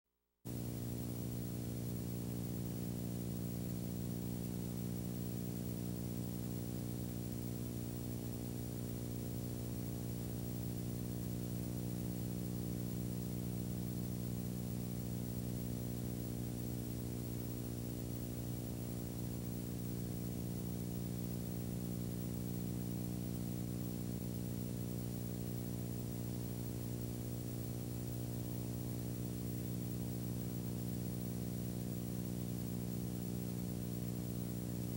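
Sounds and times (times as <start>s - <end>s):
electrical hum: 0.5s - 34.9s.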